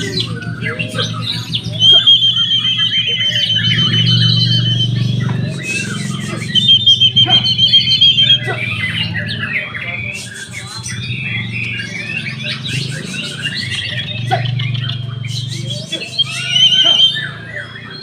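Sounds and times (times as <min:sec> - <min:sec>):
birds singing: 0:00.0 - 0:18.0
murmur of voices: 0:00.0 - 0:18.0.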